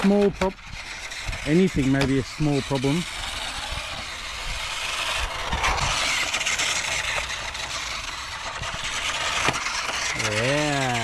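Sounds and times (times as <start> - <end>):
electric motor and gears whirring: 0.0 - 11.0.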